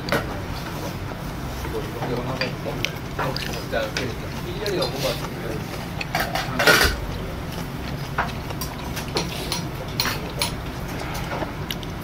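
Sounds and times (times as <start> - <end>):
low background hum: 0.0 - 12.0
chopsticks and spoon clinking dishes: 1.6 - 11.5.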